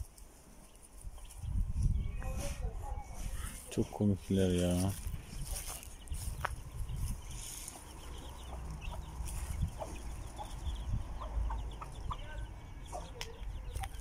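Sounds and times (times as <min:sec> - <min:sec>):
chicks peeping: 0:00.0 - 0:14.0
hen clucking: 0:00.6 - 0:14.0.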